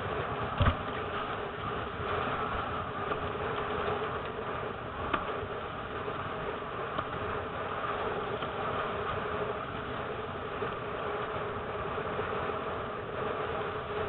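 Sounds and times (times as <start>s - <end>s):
gusty wind: 0.0s - 14.0s
water rushing: 0.0s - 14.0s.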